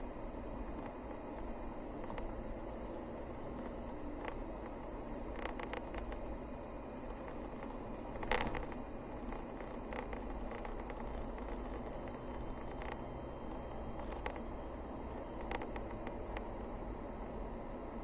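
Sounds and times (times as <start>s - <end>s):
car engine and tyre rumble: 0.0s - 18.0s
small clicks and rattles: 0.7s - 6.4s, 7.0s - 14.5s, 15.3s - 16.6s.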